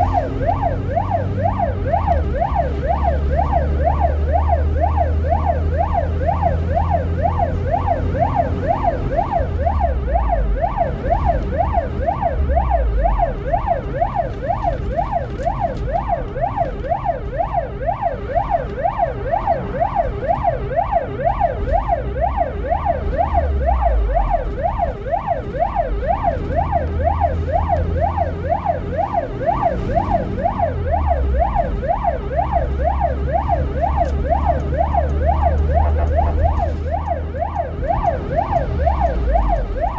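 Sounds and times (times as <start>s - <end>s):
ambulance siren wailing: 0.0s - 39.9s
road noise: 0.0s - 39.9s
vehicle engine drone: 0.0s - 39.9s.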